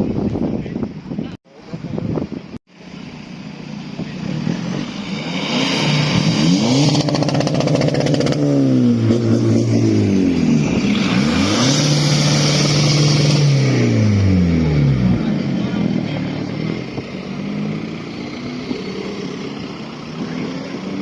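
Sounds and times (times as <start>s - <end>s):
exhaust crackle: 3.0s - 21.0s
car engine revving: 3.1s - 21.0s.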